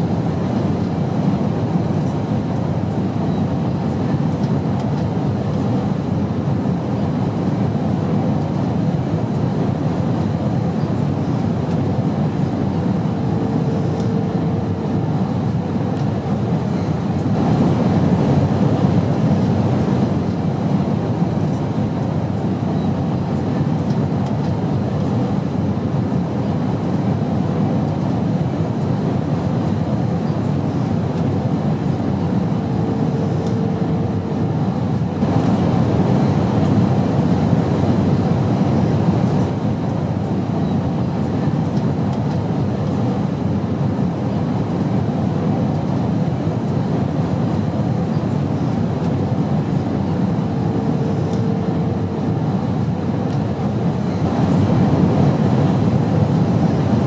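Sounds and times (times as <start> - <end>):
airplane rumble: 0.0 - 57.0.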